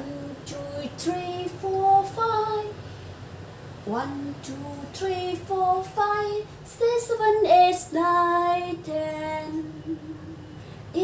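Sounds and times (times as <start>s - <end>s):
woman singing unaccompanied: 0.0s - 2.8s, 3.8s - 11.0s.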